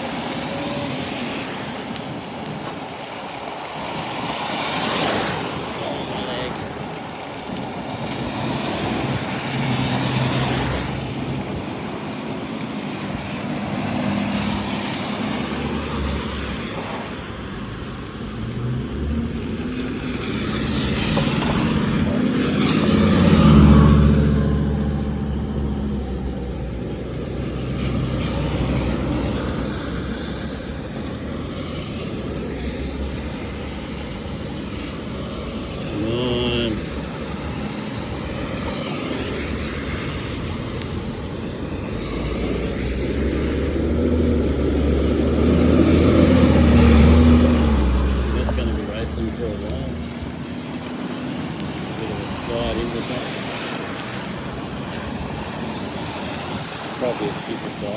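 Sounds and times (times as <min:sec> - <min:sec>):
vehicles passing on wet road: 0:00.0 - 0:57.9
vehicle with low engine note: 0:05.2 - 0:57.9.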